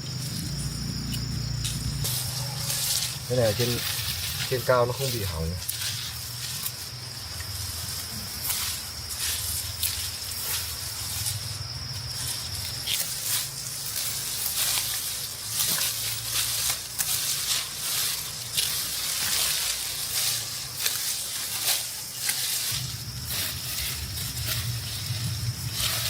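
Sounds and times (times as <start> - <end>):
dry rice stalks crackling: 0.0 - 26.0
insect buzzing: 0.0 - 26.0.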